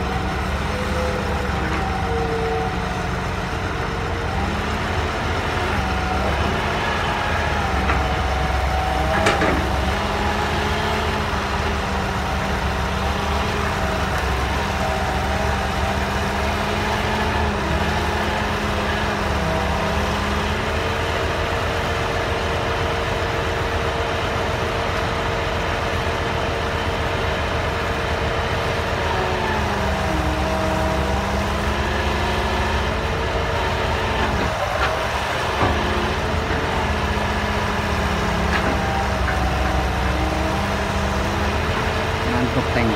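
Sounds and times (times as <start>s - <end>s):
excavator engine droning: 0.0s - 42.9s.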